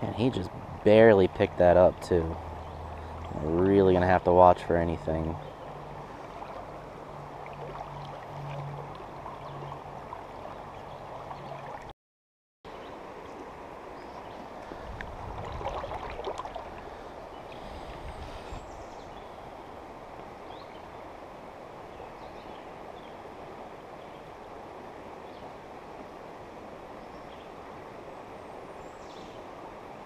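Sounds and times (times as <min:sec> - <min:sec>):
creek rushing: 0:00.0 - 0:11.9, 0:12.7 - 0:30.0.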